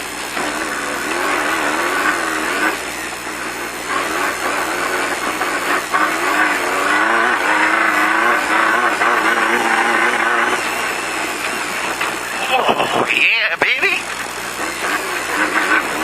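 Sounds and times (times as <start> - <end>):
race car engine revving: 0.0 - 16.0
road noise: 0.0 - 16.0.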